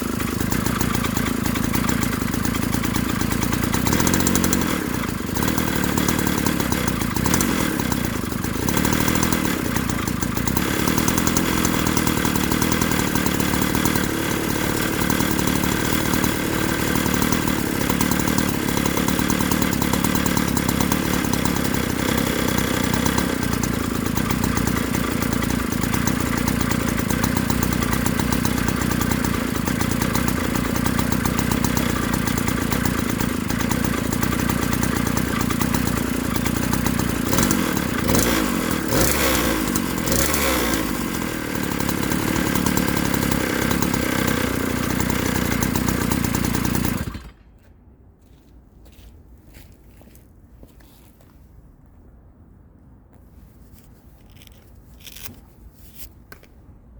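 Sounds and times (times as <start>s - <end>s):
two-stroke engine running: 0.0s - 47.6s.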